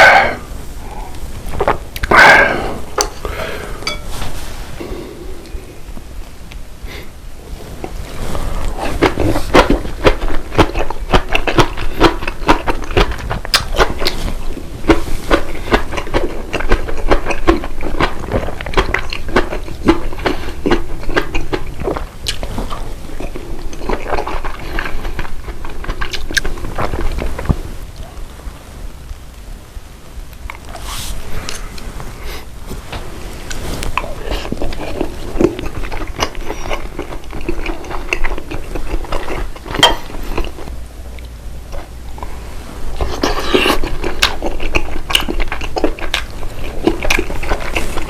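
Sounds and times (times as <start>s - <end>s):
person chewing food: 0.0s - 5.8s, 6.5s - 28.1s, 33.3s - 48.0s.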